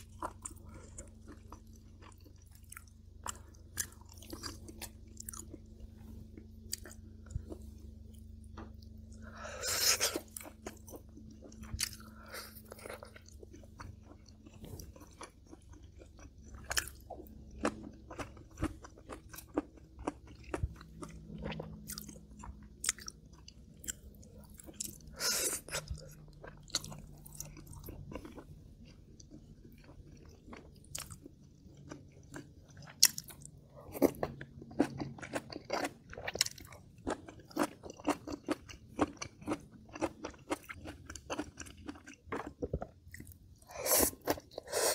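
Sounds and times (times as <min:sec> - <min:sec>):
person chewing and crunching: 0:00.0 - 0:44.9.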